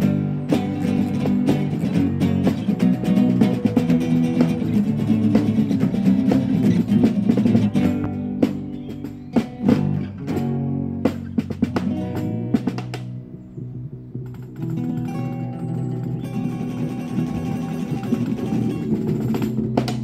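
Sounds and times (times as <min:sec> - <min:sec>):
acoustic guitar strumming: 0:00.0 - 0:13.4, 0:14.1 - 0:20.0.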